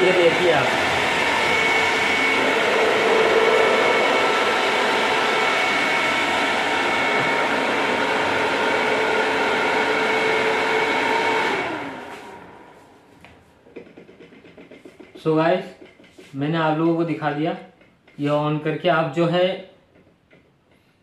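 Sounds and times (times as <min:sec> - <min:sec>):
duct fan whirring: 0:00.0 - 0:19.2.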